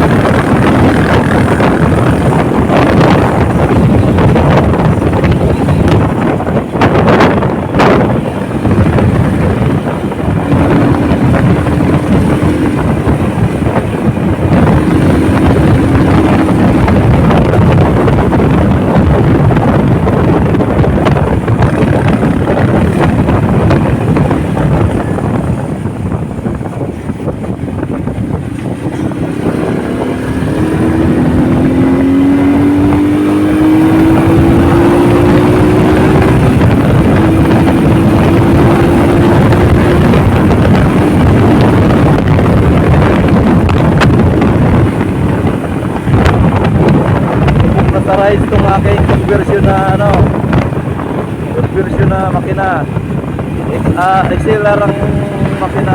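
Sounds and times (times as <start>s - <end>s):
motorcycle engine running: 0.0s - 55.9s
wind buffeting microphone: 0.0s - 55.9s.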